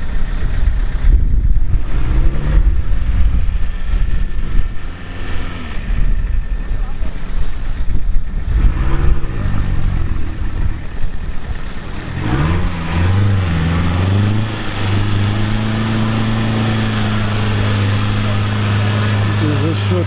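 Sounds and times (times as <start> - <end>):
car engine revving in mud: 0.0 - 20.0.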